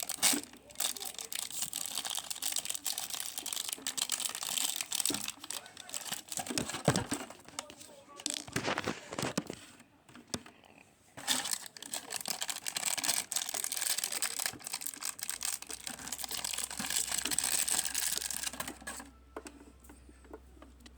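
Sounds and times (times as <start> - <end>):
packaging crinkling and tearing: 0.0 - 9.6, 11.2 - 19.1.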